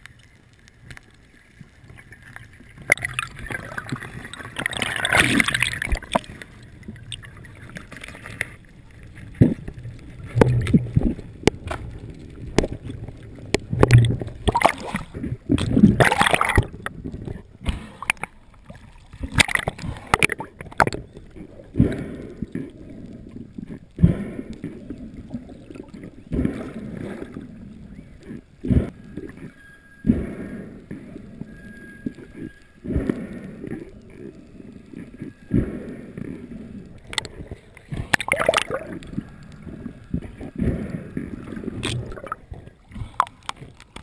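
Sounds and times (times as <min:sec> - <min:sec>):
water gurgling and sloshing: 0:00.0 - 0:44.0.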